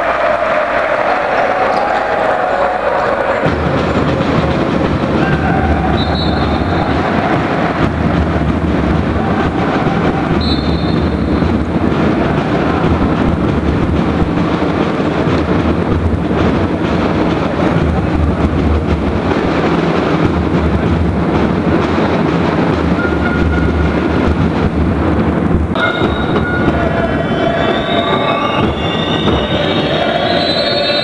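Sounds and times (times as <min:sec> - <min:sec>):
crowd din in sports hall: 0:00.0 - 0:31.0
heavy low rumble: 0:02.4 - 0:30.3.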